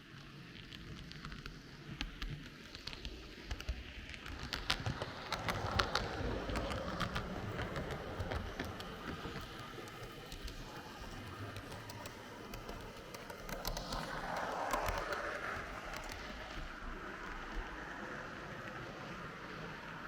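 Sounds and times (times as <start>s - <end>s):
wheels clicking over rails: 1.1s - 20.0s
model train rumbling: 2.8s - 20.0s.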